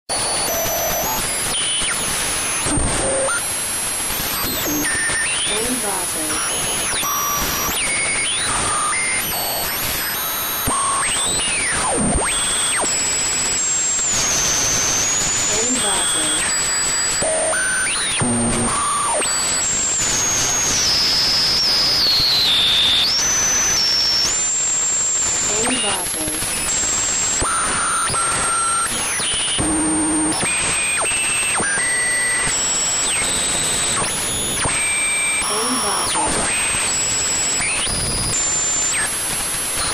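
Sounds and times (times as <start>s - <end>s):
radio static hiss and crackle: 0.1s - 39.9s.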